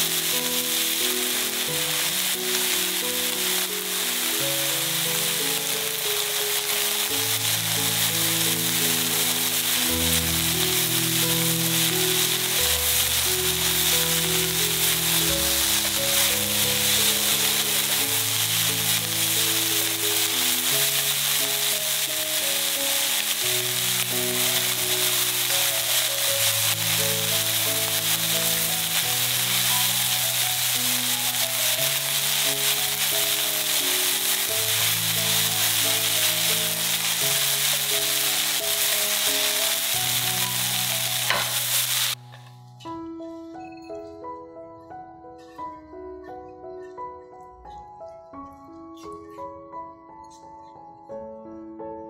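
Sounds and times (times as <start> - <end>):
vegetables sizzling in frying pan: 0.0 - 42.4
background music: 0.0 - 52.0.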